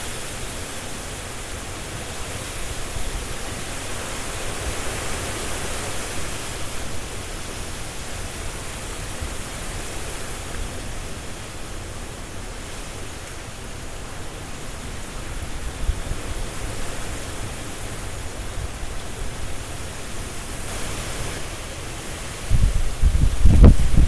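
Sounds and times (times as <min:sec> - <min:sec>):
leaves rustling: 0:00.0 - 0:24.0
strong wind through trees: 0:00.0 - 0:24.0.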